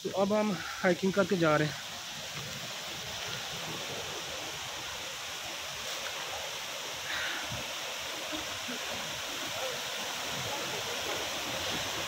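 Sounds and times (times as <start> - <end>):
stream and waterfall rushing: 0.0 - 12.0.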